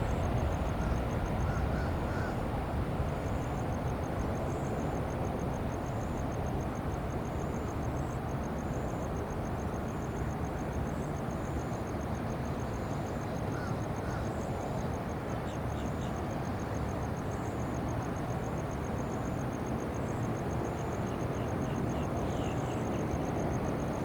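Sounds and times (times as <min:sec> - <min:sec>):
low rumbling outdoor noise: 0:00.0 - 0:24.0.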